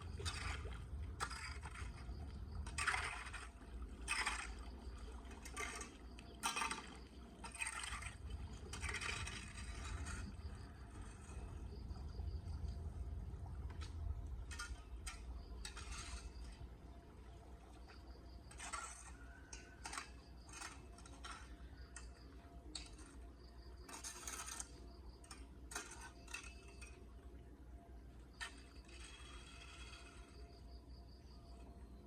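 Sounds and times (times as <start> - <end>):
short scrapes and clatters: 0.0 - 12.1, 13.7 - 16.6, 18.5 - 27.0, 28.3 - 30.7
water sloshing over drain: 0.0 - 27.0.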